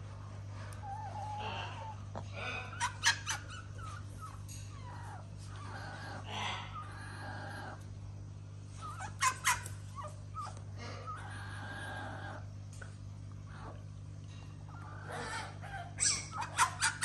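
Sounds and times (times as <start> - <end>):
cockatoo murmuring calls: 0.6 - 7.9, 8.7 - 12.6, 13.5 - 17.0.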